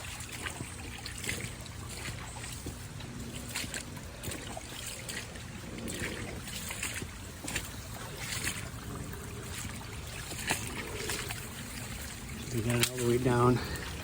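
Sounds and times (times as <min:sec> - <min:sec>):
creek water trickling and splashing: 0:00.0 - 0:14.0.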